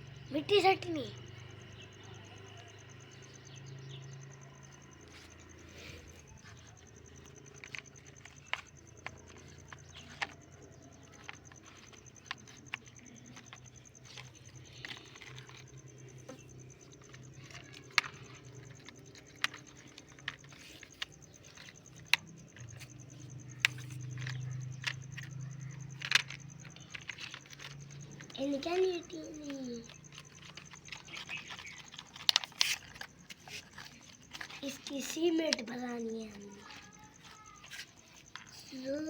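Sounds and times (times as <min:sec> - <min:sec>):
light clicks and taps: 0:02.4 - 0:39.0.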